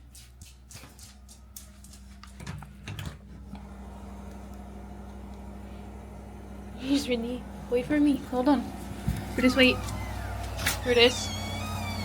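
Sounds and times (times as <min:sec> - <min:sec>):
low machine hum: 0:00.6 - 0:12.0.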